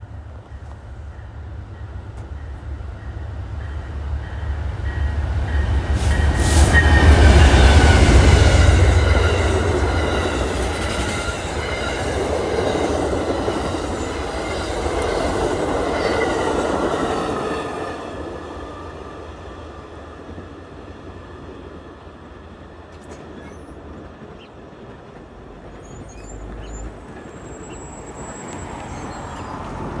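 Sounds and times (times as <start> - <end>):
diesel train rumble: 0.0 - 30.0.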